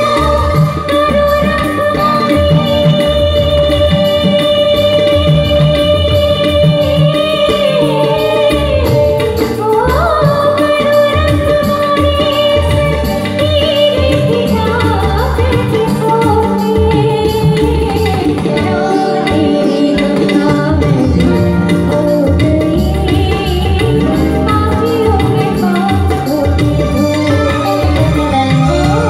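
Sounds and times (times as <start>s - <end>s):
keyboard: 0.0s - 29.0s
woman singing into a microphone: 0.0s - 29.0s.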